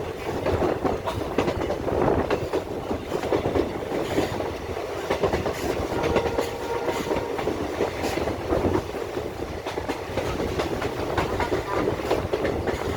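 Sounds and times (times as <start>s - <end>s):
train wheels clattering on rails: 0.0s - 12.9s.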